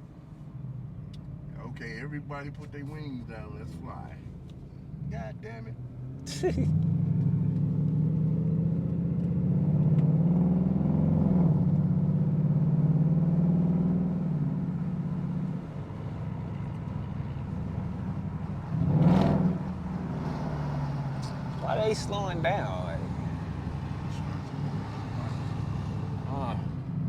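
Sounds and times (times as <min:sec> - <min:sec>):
car engine accelerating hard: 0:04.9 - 0:27.0.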